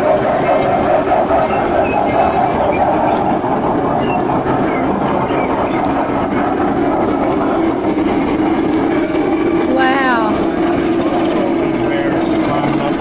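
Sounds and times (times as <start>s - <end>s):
model train wheels rolling on track: 0.0s - 13.0s.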